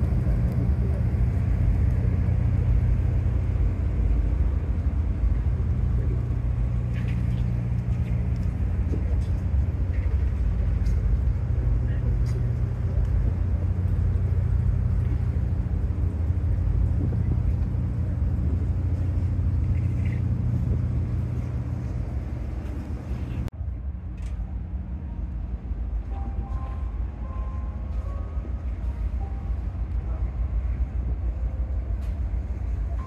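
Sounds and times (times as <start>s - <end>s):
vehicle engine rumble: 0.0s - 33.0s.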